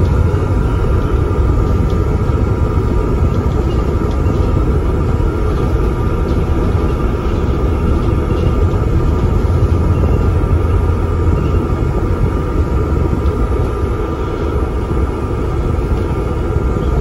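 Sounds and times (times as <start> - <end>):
bus diesel engine rumble: 0.0 - 17.0
high whine: 0.0 - 17.0.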